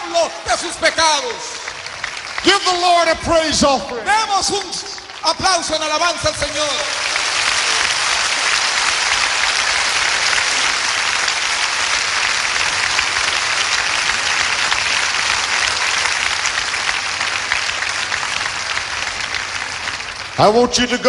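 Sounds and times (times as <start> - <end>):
crowd applauding: 0.0 - 21.0.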